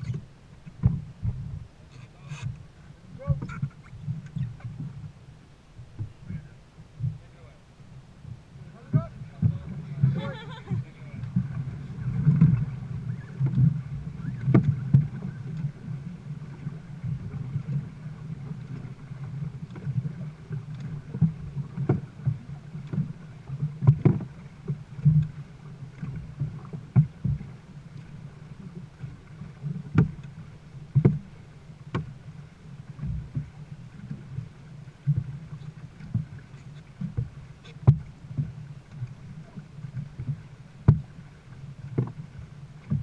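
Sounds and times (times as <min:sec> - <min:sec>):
paddles splashing: 0:00.0 - 0:43.0.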